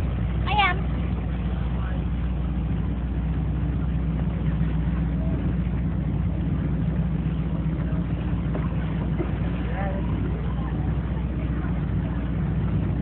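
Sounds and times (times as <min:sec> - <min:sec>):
motorboat engine drone: 0:00.0 - 0:13.0
rushing water noise: 0:00.0 - 0:13.0.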